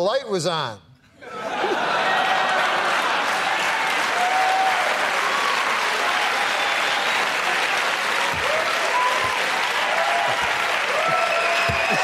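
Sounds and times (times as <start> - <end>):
audience applauding: 1.8 - 12.0
audience cheers: 1.8 - 12.0.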